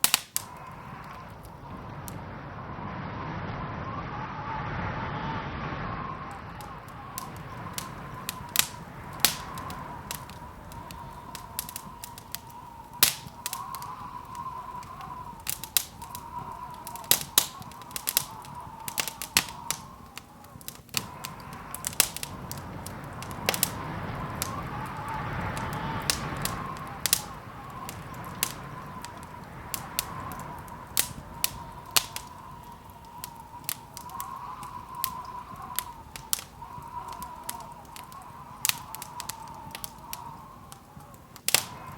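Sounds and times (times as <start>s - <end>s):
wood fire crackling: 0.0s - 2.9s, 5.7s - 41.9s.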